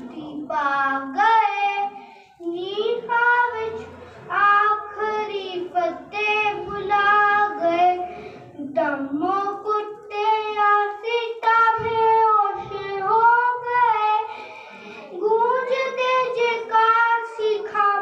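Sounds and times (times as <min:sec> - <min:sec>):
boy singing into a microphone: 0:00.0 - 0:18.0.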